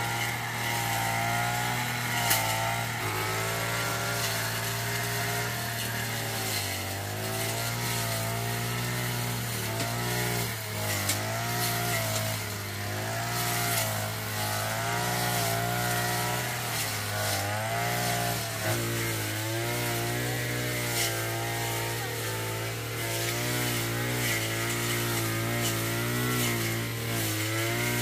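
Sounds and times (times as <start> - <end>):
two-stroke power tool engine revving: 0.0 - 28.0.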